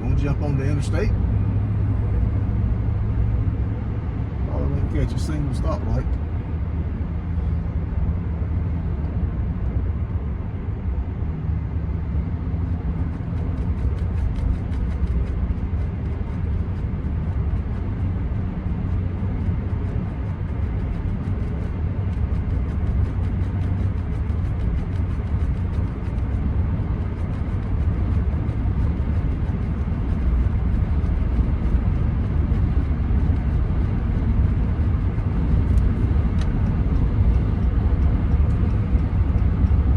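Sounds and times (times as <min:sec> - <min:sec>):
engine and road noise drone: 0:00.0 - 0:39.9.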